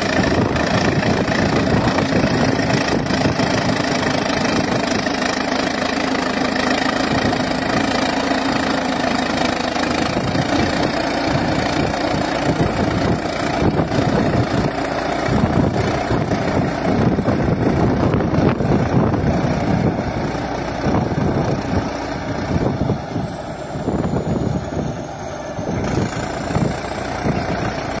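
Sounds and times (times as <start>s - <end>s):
bulldozer diesel engine running: 0.0s - 28.0s
high whine: 0.0s - 28.0s.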